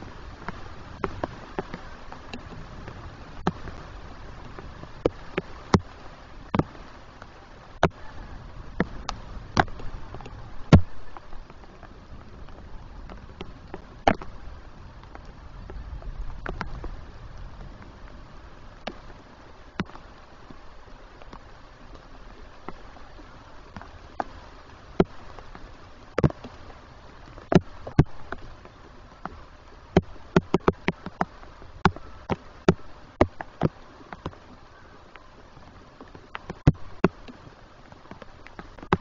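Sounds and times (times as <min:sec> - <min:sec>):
faint rain hiss: 0:00.0 - 0:39.0
raindrops tapping camera housing: 0:00.0 - 0:39.0.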